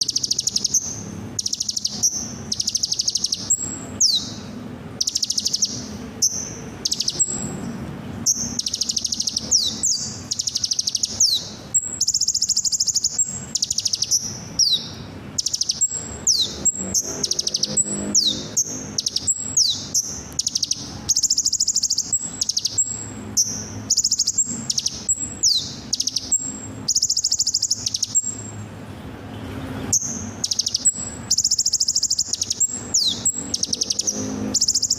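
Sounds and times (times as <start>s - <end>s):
sunbird song: 0.0s - 34.9s.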